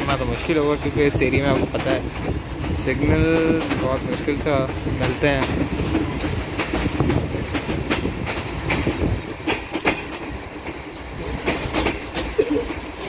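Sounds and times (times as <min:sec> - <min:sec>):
train wheels rumbling on track: 0:00.0 - 0:13.0
wheels clattering over rail joints: 0:00.0 - 0:13.0.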